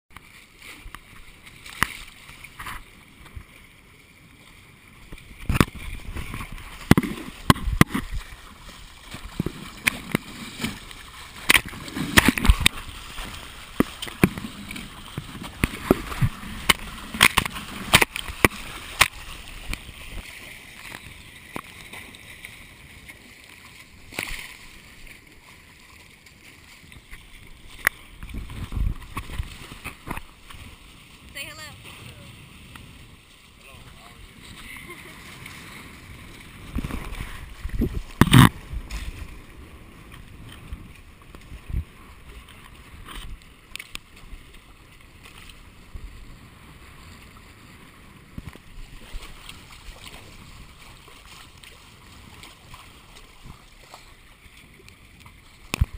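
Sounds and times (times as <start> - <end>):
water sloshing against hulls: 0.1 - 55.9
waves slapping the hull: 0.1 - 55.9.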